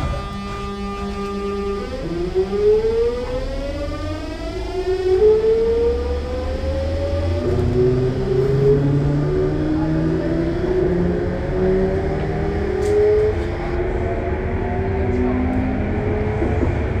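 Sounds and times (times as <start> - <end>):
train motor whine: 0.0 - 17.0.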